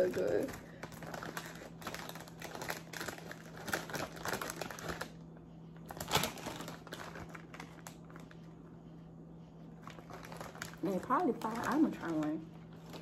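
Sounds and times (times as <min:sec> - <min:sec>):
chip bag crinkling: 0:00.0 - 0:05.2, 0:05.8 - 0:08.5, 0:09.7 - 0:13.0.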